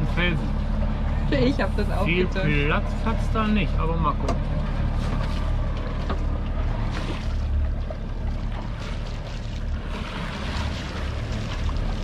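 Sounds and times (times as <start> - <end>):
boat engine hum: 0.0 - 12.0
water rushing: 0.0 - 12.0
wind: 0.0 - 12.0.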